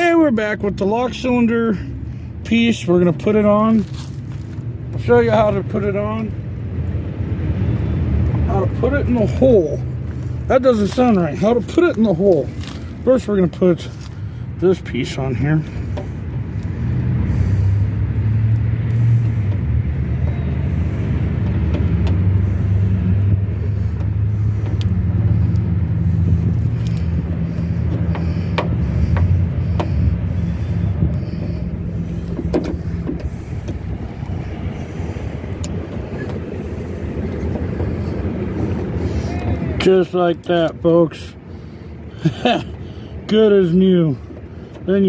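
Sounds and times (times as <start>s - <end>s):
engine droning: 0.0s - 45.0s.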